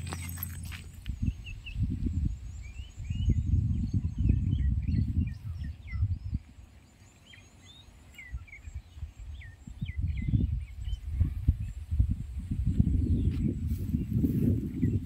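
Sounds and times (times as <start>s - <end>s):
low rumble on microphone: 0.0s - 6.8s, 8.2s - 15.0s
birds chirping and whistling: 0.0s - 15.0s.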